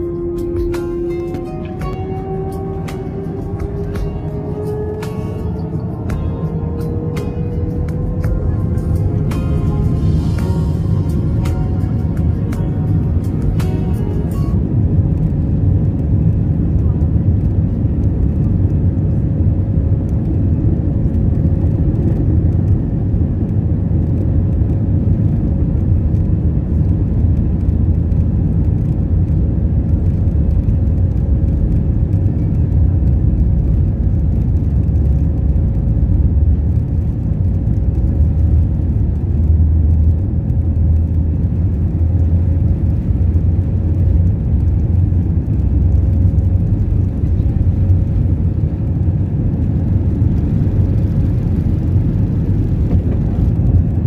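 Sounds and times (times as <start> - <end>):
jet engines and wheels rumbling: 0.0 - 54.0.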